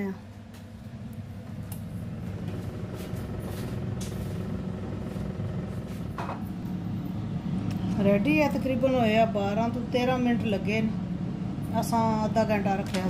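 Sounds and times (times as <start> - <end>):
air fryer fan humming: 0.0 - 13.0.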